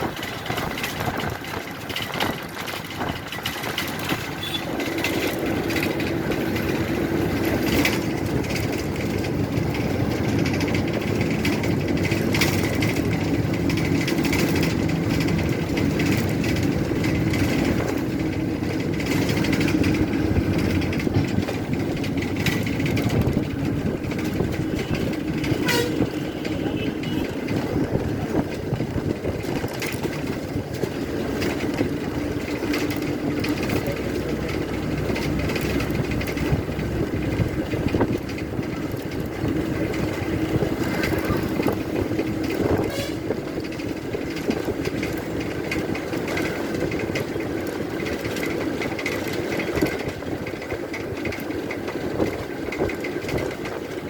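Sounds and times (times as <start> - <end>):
bus body rattling: 0.0 - 54.0
diesel engine droning: 0.0 - 54.0
road rumble: 0.0 - 54.0.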